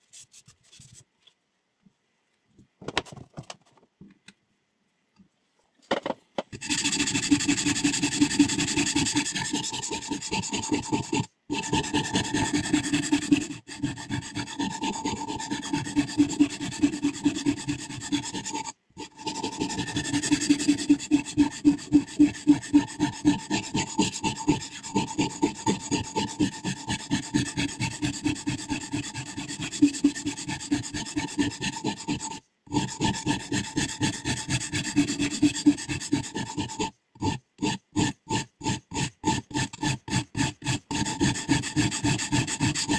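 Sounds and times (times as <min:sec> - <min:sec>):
sharpening stone rasping on blade: 0:06.6 - 0:42.9.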